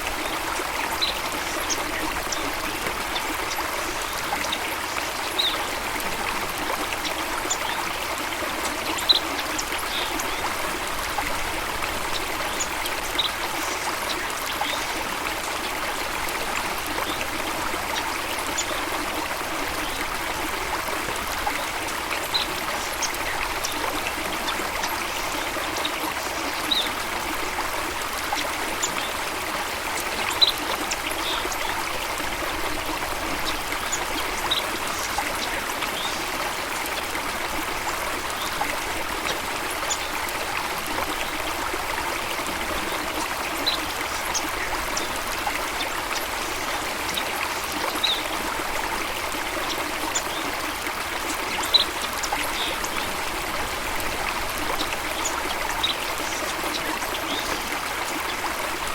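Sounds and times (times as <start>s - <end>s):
running water: 0.0s - 58.9s.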